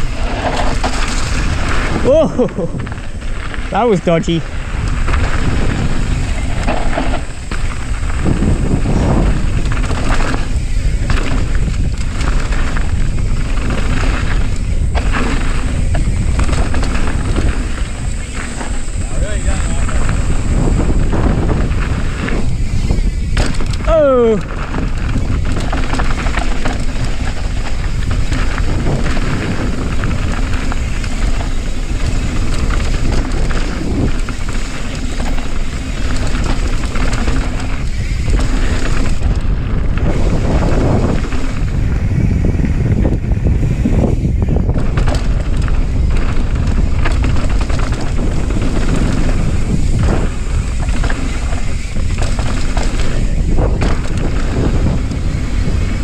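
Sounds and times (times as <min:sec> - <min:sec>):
bike rattling over bumps: 0:00.0 - 0:56.0
bike tyres rolling on dirt: 0:00.0 - 0:56.0
wind buffeting microphone: 0:00.0 - 0:56.0.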